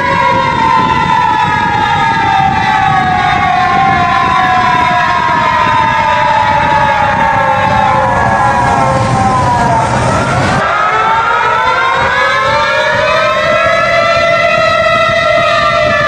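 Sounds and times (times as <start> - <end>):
low rumbling noise: 0.0 - 16.0
warning siren wailing: 0.0 - 16.0.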